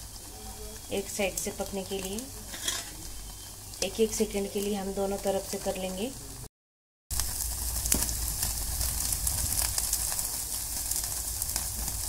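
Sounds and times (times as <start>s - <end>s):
chicken sizzling on grill: 0.0s - 6.5s, 7.1s - 12.0s
gas burner rumble: 0.0s - 6.5s, 7.1s - 12.0s.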